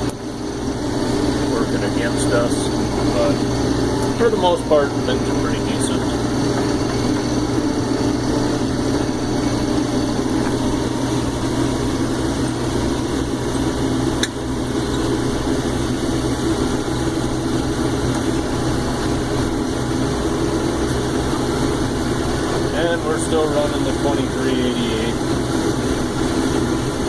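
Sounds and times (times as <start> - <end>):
combine harvester engine droning: 0.0 - 27.0.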